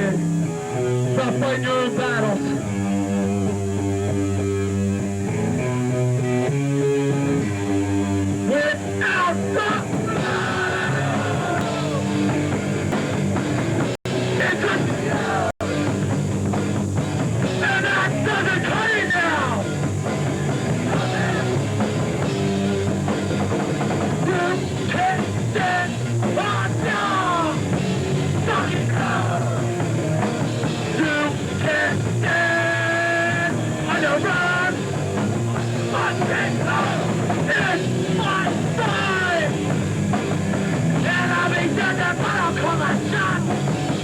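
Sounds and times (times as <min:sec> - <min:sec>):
punk band playing live: 0:00.0 - 0:44.0.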